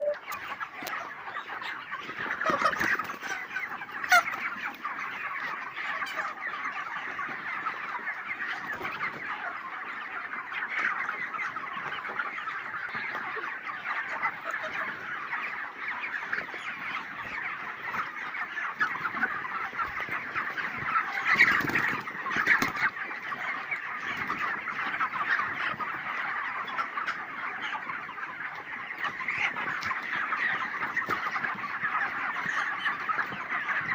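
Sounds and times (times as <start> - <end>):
chickens calling in chorus: 0.0 - 33.9.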